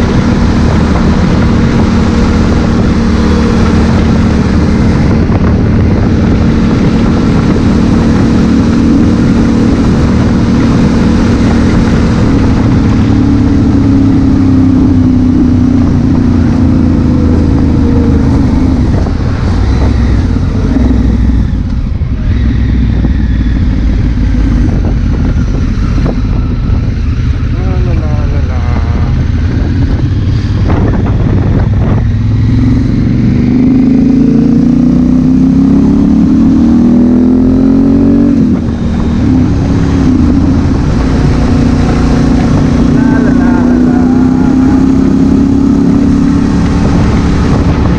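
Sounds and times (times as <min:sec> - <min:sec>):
motorcycle engine running: 0:00.0 - 0:47.9
wind rumble on camera: 0:00.0 - 0:47.9.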